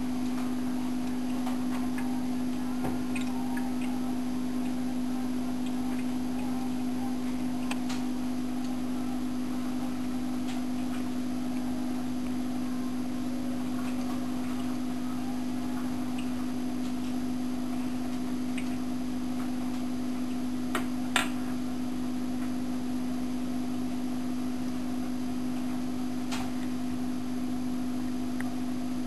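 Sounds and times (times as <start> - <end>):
electric pump humming: 0.0 - 29.0.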